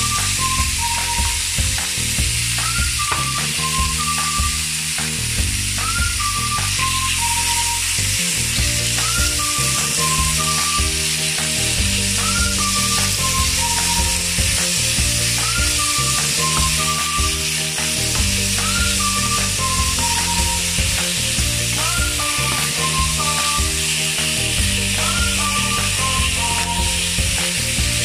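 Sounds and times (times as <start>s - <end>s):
background music: 0.0s - 28.0s
chicken sizzling in a pan: 0.0s - 28.0s.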